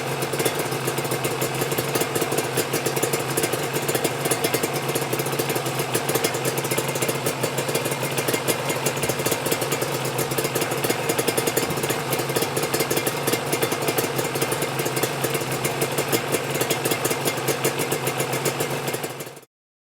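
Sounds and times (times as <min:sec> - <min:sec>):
two-stroke engine idling: 0:00.0 - 0:19.5
fast rattling clatter: 0:00.1 - 0:19.3.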